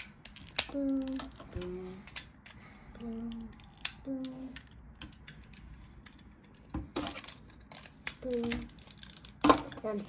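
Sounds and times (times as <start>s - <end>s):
plastic toy parts clicking: 0.0s - 10.0s.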